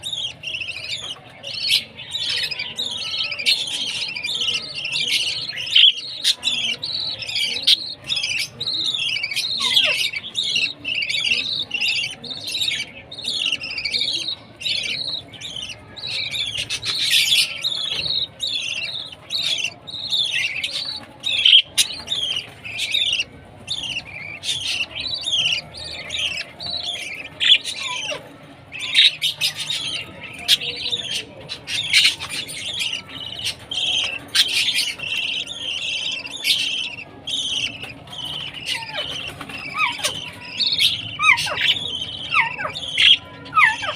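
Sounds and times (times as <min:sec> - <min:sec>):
budgie chicks chirping and squawking: 0:00.0 - 0:43.9.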